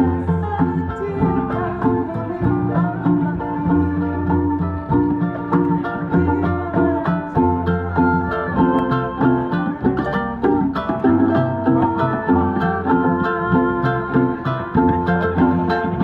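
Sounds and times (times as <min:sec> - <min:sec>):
bowed string: 0:00.0 - 0:16.0
steady bass line: 0:00.0 - 0:16.0
strummed and plucked strings: 0:00.0 - 0:16.0.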